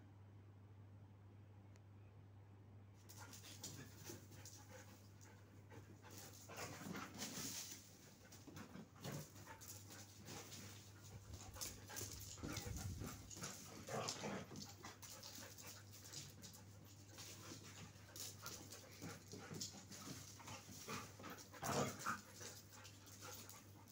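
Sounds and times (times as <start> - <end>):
dogs scuffling: 3.0 - 23.9
dog panting: 3.2 - 23.9.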